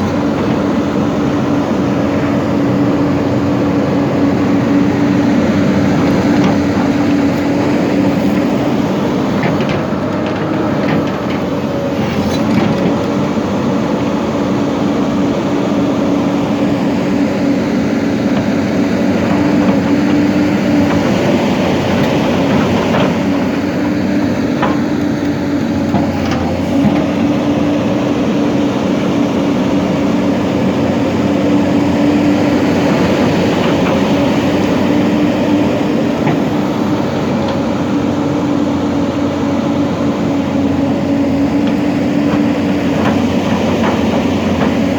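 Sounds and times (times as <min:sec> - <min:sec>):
excavator diesel engine humming: 0:00.0 - 0:44.9.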